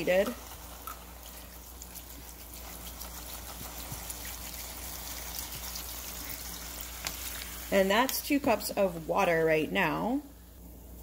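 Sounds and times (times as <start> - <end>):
water trickling into a pot: 0.0 - 9.4.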